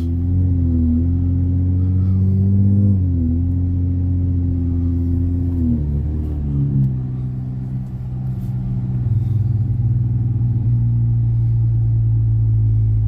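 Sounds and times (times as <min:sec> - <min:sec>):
car exhaust low note: 0:00.0 - 0:13.0.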